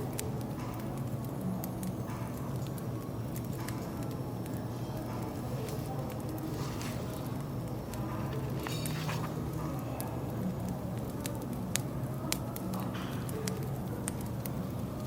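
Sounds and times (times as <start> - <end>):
firewood crackling and popping: 0.0 - 15.0
murmur of cafe chatter: 0.0 - 15.0.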